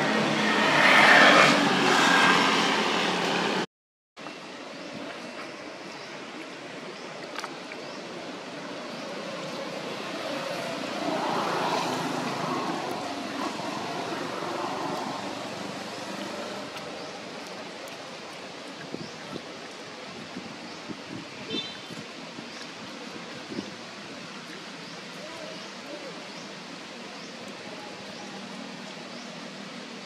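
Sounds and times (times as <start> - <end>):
outdoor background rush: 0.0 - 30.0
rustling leaves: 4.2 - 30.0.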